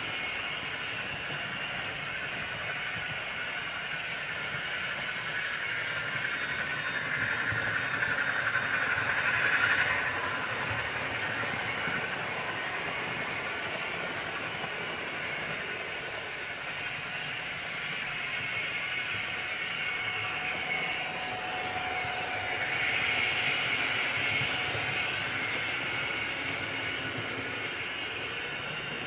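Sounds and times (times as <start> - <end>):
model trains whirring on rails: 0.0 - 29.0.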